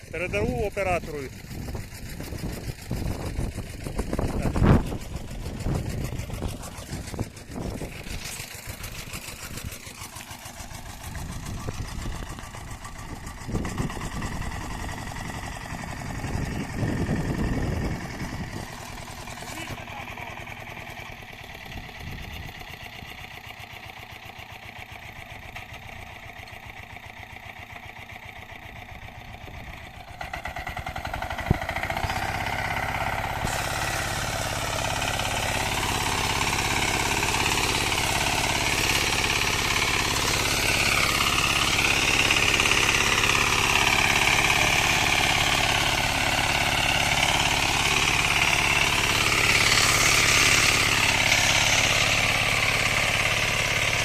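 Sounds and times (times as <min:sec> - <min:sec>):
walk-behind tractor engine running: 0:00.0 - 0:54.0.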